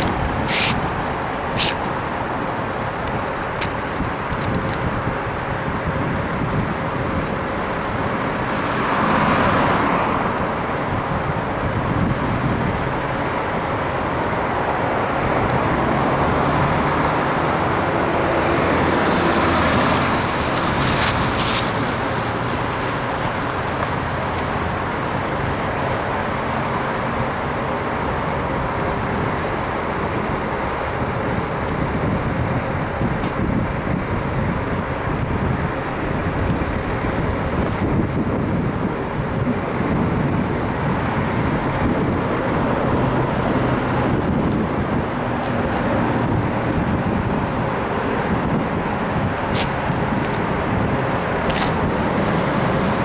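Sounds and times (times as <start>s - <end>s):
cars passing close by: 0.0s - 53.0s
traffic hum: 0.0s - 53.0s.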